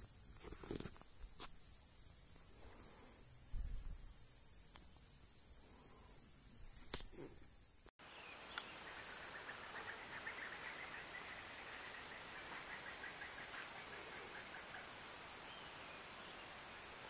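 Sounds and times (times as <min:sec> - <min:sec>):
insect chirring trill: 0:00.0 - 0:17.0
insects buzzing: 0:00.0 - 0:17.0.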